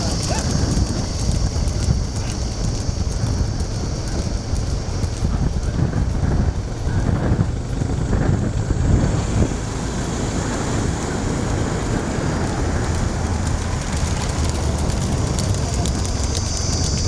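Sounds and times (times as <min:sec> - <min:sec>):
vehicle engines running: 0:00.0 - 0:17.0
wind on microphone: 0:00.0 - 0:17.0.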